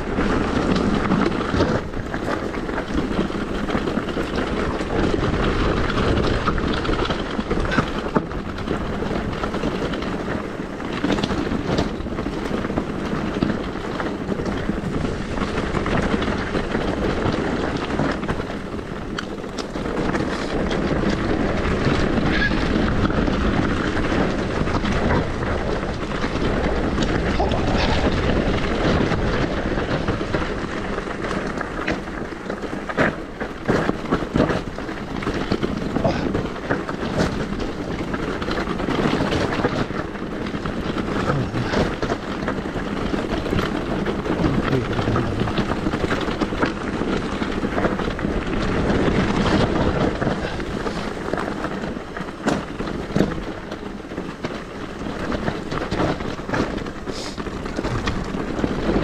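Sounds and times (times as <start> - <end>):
bike knocking and rattling: 0.0 - 59.0
tyres rolling on ground: 0.0 - 59.0
wind rushing over microphone: 0.0 - 59.0.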